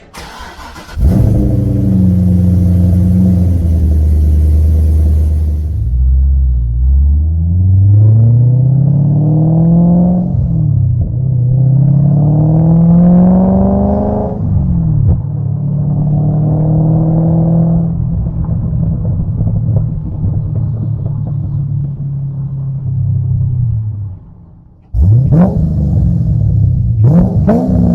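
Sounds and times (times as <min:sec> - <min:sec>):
car engine and exhaust revving: 0:00.0 - 0:27.9.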